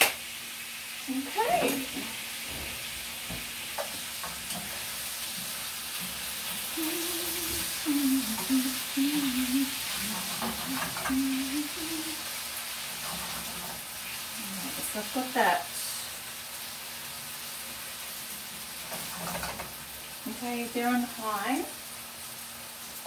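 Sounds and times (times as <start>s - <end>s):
chips sizzling in a pan: 0.0s - 23.0s.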